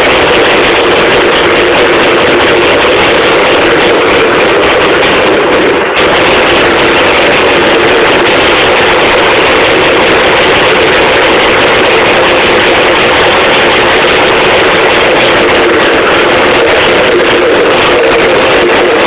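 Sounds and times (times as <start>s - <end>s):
two-stroke engine running: 0.0s - 19.0s.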